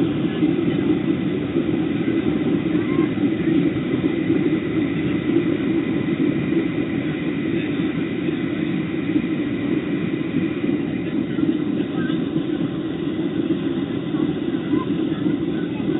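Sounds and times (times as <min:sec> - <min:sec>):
airliner engine rumble: 0:00.0 - 0:15.9.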